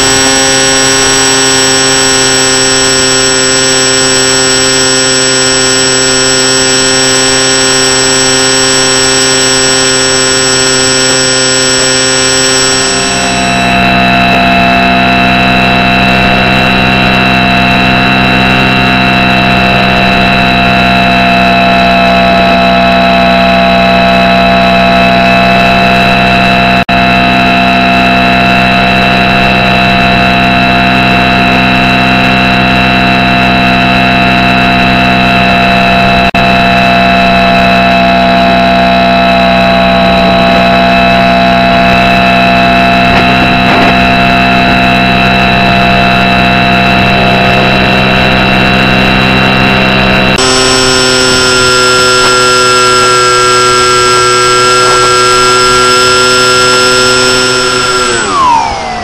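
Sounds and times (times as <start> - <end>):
model aircraft motor drone: 0.0 - 59.0.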